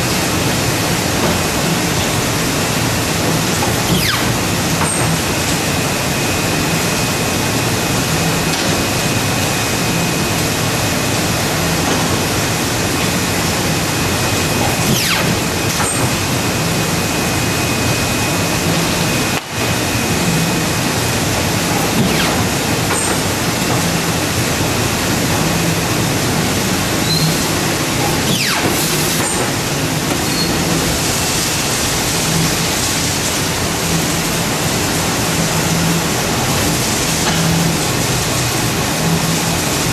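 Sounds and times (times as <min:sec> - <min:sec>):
low machine hum: 0:00.0 - 0:39.9.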